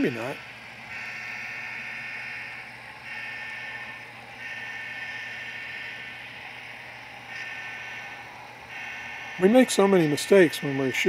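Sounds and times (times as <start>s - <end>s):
electronic crossing bells ringing: 0.0s - 6.3s, 7.3s - 11.0s.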